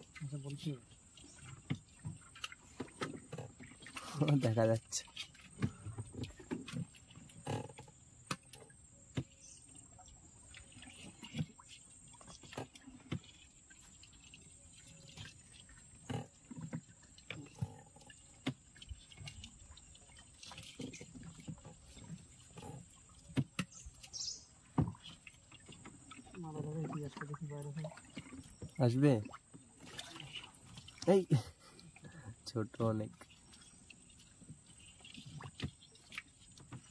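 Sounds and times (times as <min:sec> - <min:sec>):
water sounds: 0:00.0 - 0:36.9.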